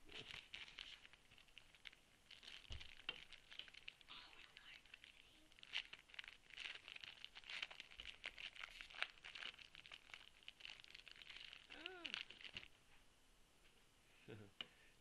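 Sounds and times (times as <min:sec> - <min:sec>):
foil wrapper crinkling: 0:00.0 - 0:12.7.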